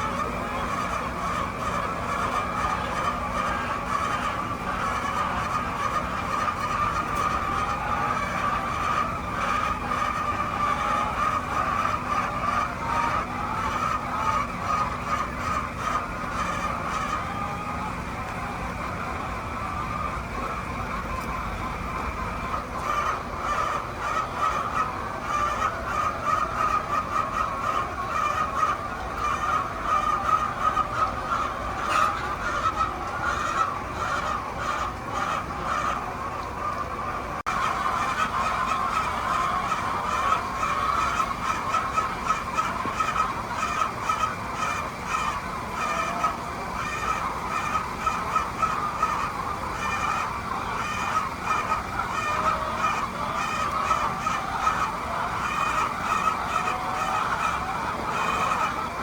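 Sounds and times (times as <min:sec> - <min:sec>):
hens clucking and squawking: 0:00.0 - 0:59.0.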